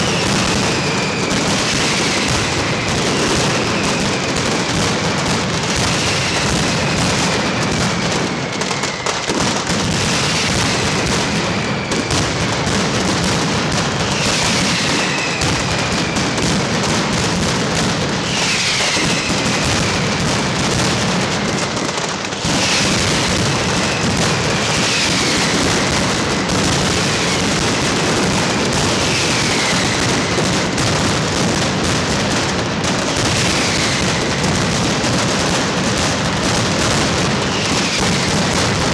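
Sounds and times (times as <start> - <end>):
firecracker barrage bangs: 0.0 - 38.9
whistling fireworks: 0.0 - 38.9.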